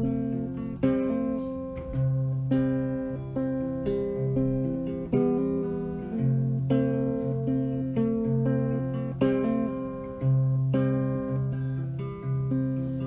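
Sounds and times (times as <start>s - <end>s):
acoustic guitar picking slow notes: 0.0s - 13.0s.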